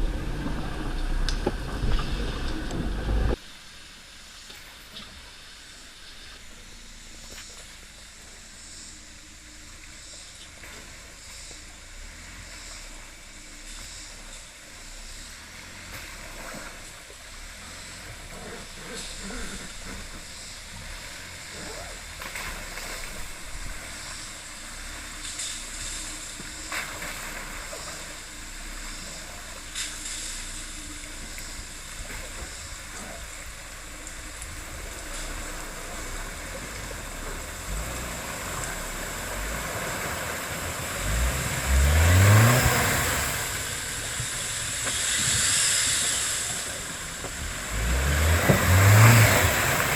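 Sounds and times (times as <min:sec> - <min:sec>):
vehicle engine revving: 0:00.0 - 0:03.4, 0:08.6 - 0:49.9.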